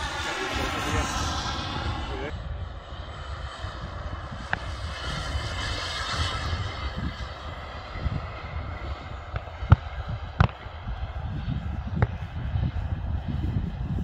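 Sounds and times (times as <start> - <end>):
model jet turbine whining: 0.0 - 14.0
wind rumble on microphone: 0.0 - 14.0.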